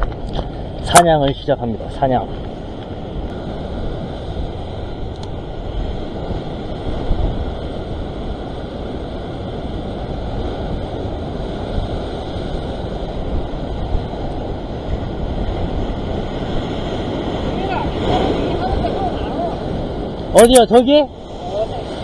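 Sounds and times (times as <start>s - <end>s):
surf washing over rocks: 0.0s - 22.0s
wind buffeting microphone: 0.0s - 22.0s.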